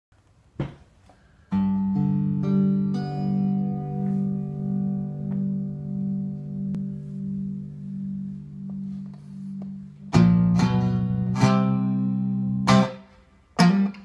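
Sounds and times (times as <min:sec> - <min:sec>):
electric guitar strings plucked: 0:01.5 - 0:14.0.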